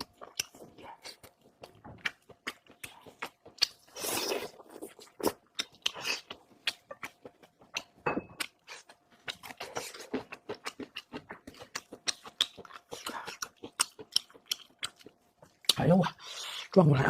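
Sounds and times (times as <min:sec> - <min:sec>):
close chewing and mouth smacking: 0:00.0 - 0:16.8.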